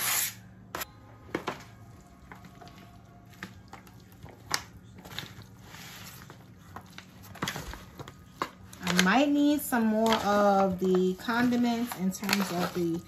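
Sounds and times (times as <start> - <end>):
potato salad squishing: 1.6 - 13.0.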